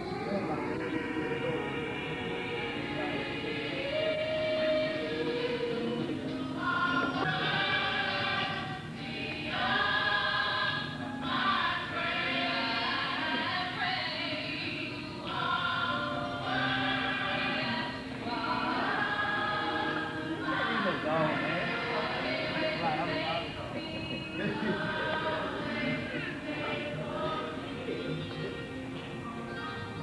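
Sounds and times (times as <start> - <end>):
choir singing long held notes: 0.0 - 30.0.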